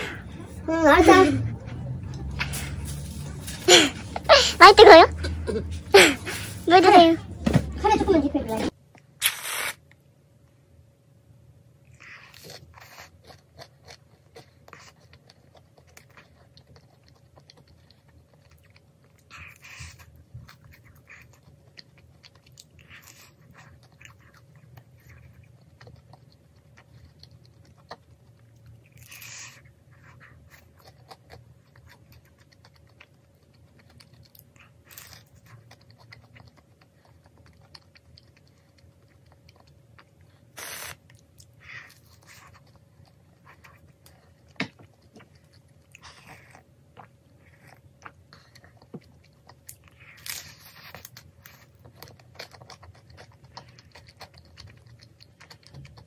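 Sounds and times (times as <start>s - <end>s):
chewing crisp pastry: 0.0s - 6.6s, 11.5s - 56.0s.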